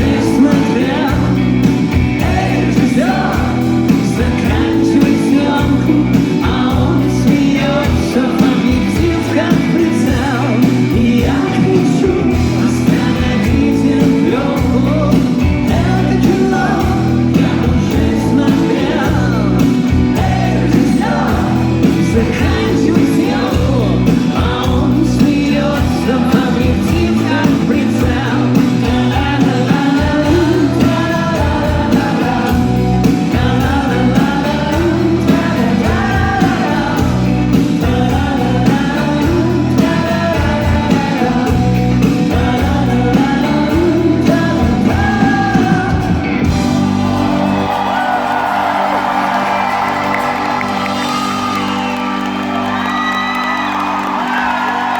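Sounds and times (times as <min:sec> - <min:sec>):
live rock band playing: 0:00.0 - 0:54.9
person singing: 0:00.0 - 0:54.9.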